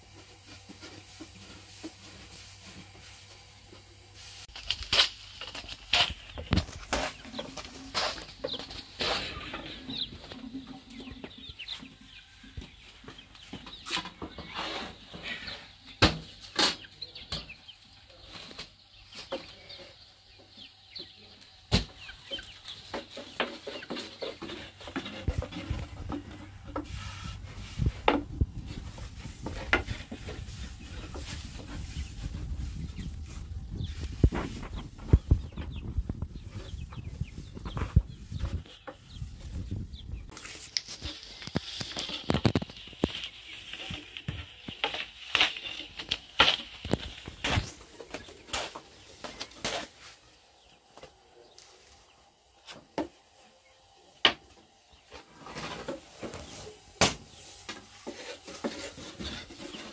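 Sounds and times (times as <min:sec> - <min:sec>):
chickens clucking: 0:00.0 - 0:04.4, 0:05.2 - 0:59.9.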